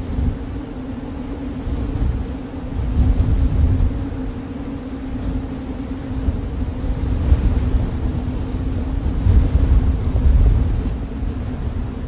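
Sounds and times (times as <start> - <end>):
snowstorm wind blowing: 0.0 - 12.0.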